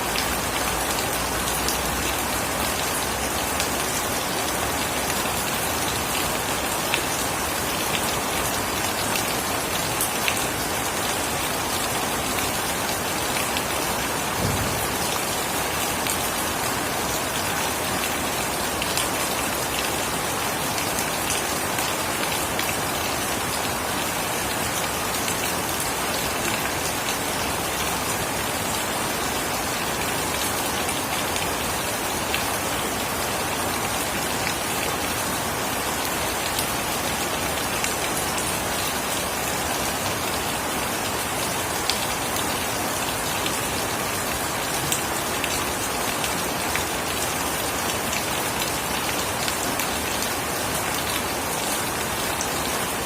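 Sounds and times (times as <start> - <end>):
rain pattering on surfaces: 0.0 - 53.0.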